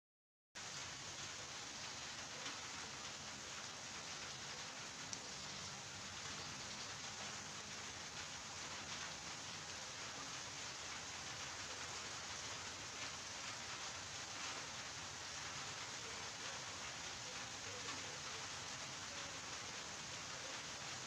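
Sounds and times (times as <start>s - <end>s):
rain falling: 0.6s - 21.0s.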